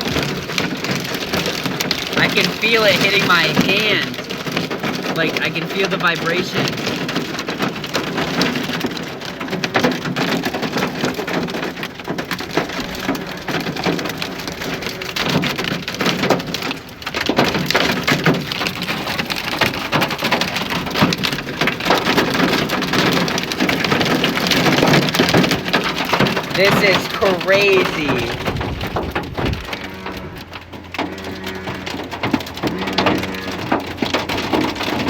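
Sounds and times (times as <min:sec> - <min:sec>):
hail and heavy rain pelting: 0:00.0 - 0:35.0.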